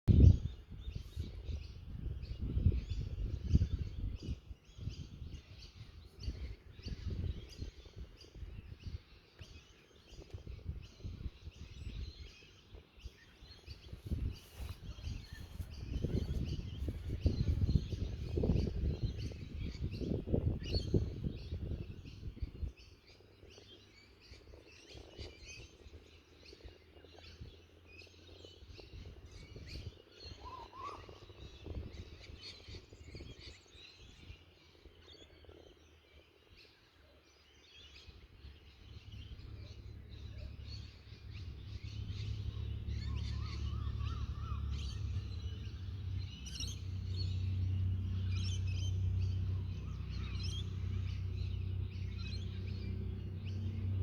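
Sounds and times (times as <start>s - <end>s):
wind buffeting microphone: 0.1s - 36.6s, 37.7s - 54.0s
small birds chirping: 0.1s - 54.0s.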